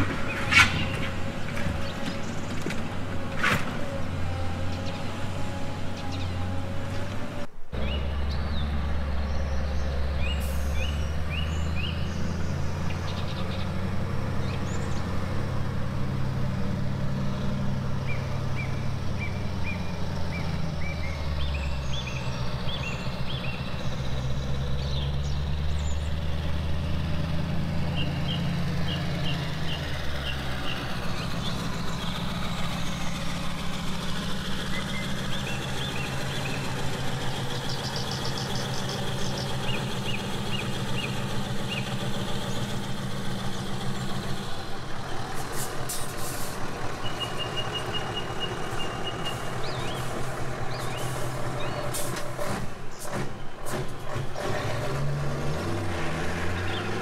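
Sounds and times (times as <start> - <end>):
simulated diesel truck engine: 0.0 - 57.0.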